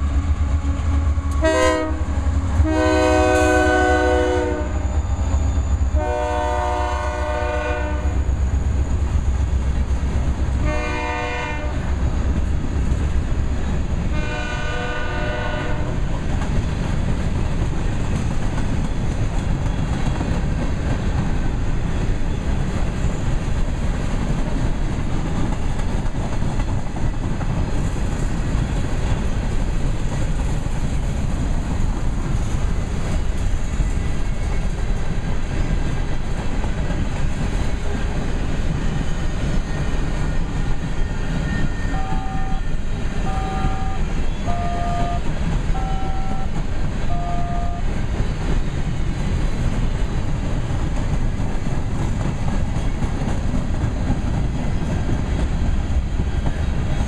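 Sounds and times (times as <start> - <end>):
train wheels clattering on rails: 0.0 - 57.0.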